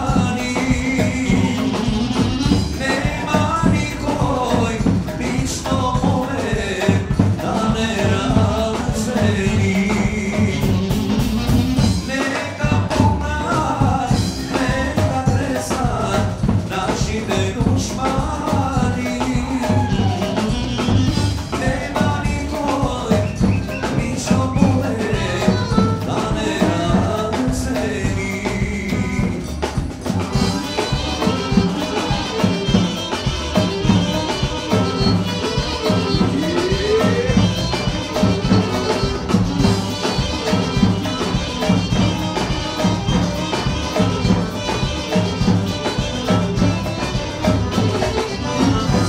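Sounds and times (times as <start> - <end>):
saxophone melody: 0.0 - 12.6, 19.0 - 28.4, 29.0 - 49.0
bass drums driving beat: 0.0 - 49.0.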